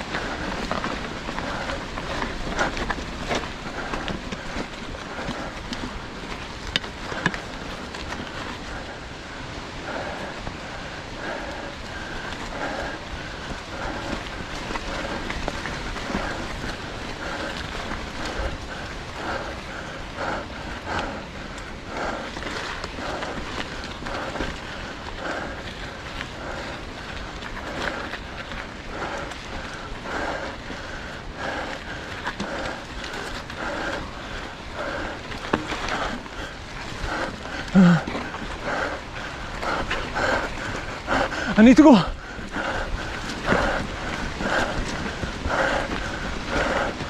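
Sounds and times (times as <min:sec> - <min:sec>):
person panting hard: 0:00.0 - 0:47.0
wind and trail noise: 0:00.0 - 0:47.0.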